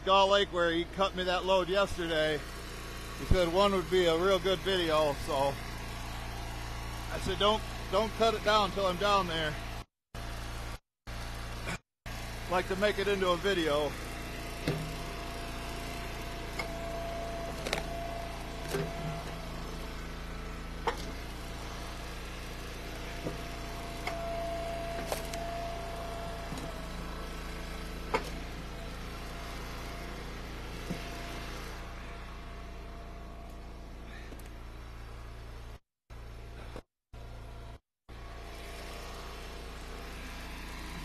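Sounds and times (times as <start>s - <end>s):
hydraulic ram whine: 0.0s - 41.0s
log splitter engine running: 0.0s - 41.0s.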